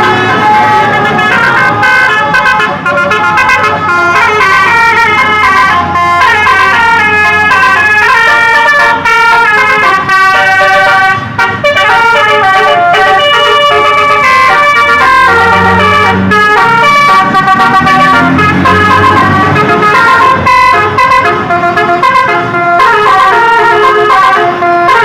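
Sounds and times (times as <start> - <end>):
musical bus horn playing a tune: 0.0 - 25.0.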